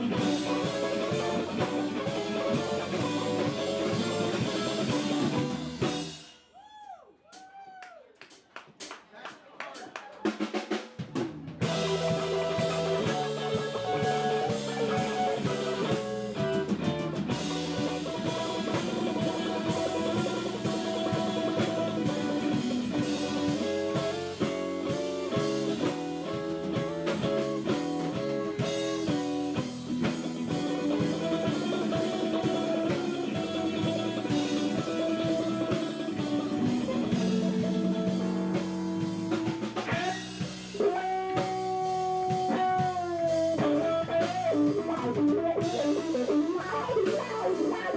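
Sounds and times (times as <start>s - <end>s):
electric guitar lead: 0.0s - 6.3s, 11.6s - 47.9s
bass guitar: 0.0s - 6.4s, 10.5s - 47.9s
drum kit: 0.0s - 6.6s, 7.3s - 7.6s, 8.2s - 9.1s, 9.7s - 47.9s.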